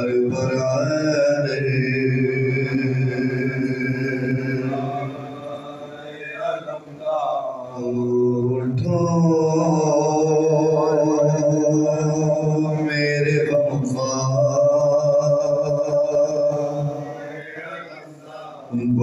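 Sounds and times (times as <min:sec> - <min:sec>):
man chanting through sound system: 0:00.0 - 0:19.0.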